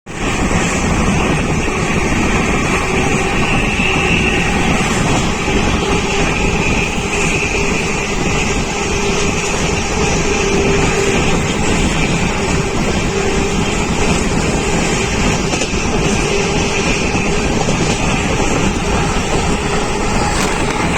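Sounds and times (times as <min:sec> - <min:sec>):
moving passenger train rumble: 0:00.1 - 0:20.9.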